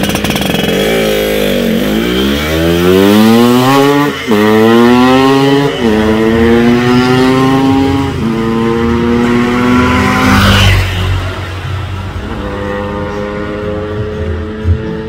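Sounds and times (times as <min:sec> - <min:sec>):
motorcycle accelerating through gears: 0:00.0 - 0:15.0.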